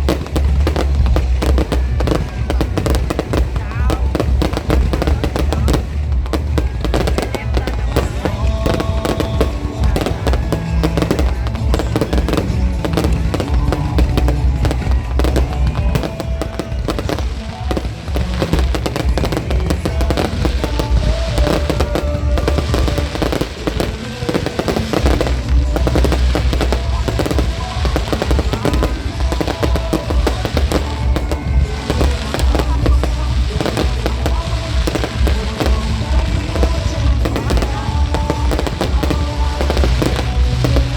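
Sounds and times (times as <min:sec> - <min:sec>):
fireworks bangs and crackling: 0:00.0 - 0:40.9
music playing: 0:00.0 - 0:40.9.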